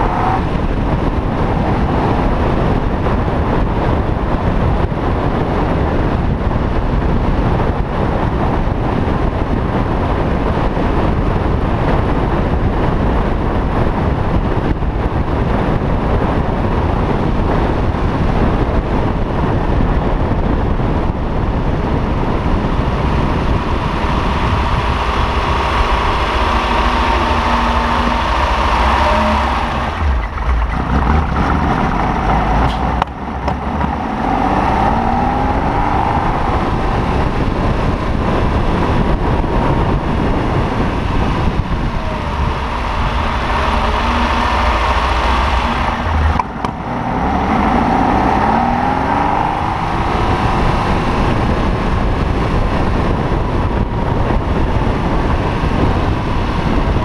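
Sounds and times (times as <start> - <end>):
car engine revving: 0.0 - 19.8, 20.4 - 57.0.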